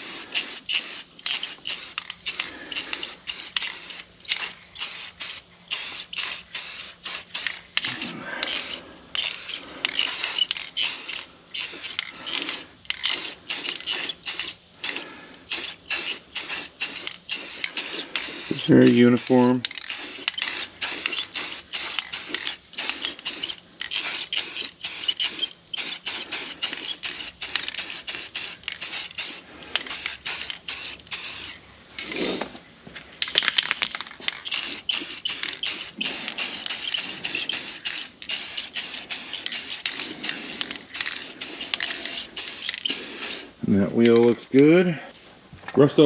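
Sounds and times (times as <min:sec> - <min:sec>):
spray paint can hissing bursts: 0:00.0 - 0:32.4, 0:34.2 - 0:43.6.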